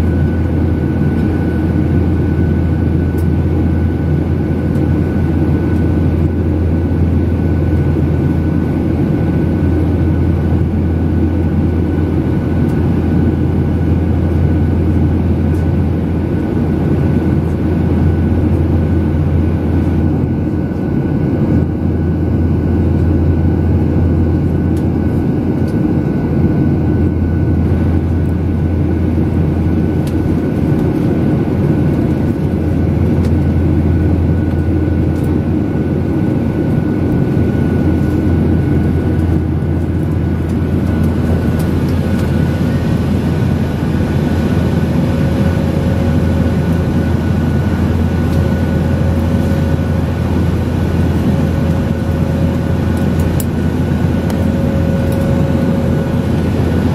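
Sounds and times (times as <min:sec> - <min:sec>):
jet cabin engine rumble: 0:00.0 - 0:56.9.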